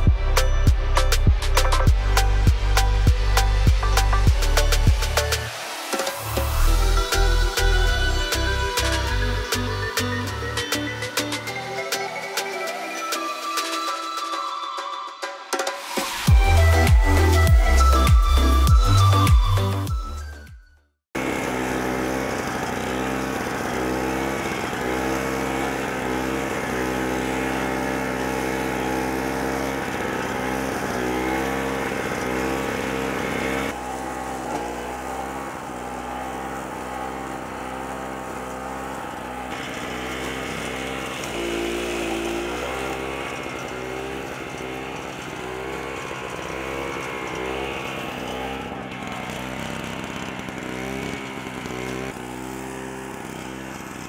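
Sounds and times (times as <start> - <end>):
mower engine running under load: 0.0 - 13.5, 16.1 - 19.8, 21.2 - 54.0.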